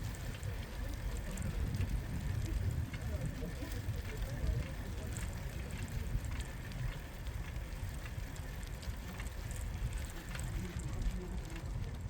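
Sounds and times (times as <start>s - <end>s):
bicycle tyres crackling on path: 0.0s - 12.0s
wind rumbling on microphone: 0.0s - 12.0s.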